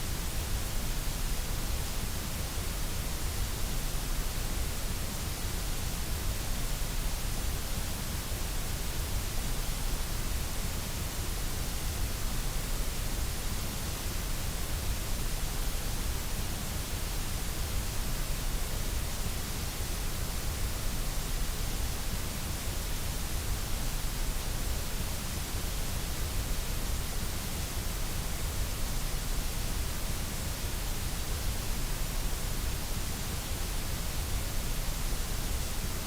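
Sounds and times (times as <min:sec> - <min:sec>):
white noise hiss: 0:00.0 - 0:36.0.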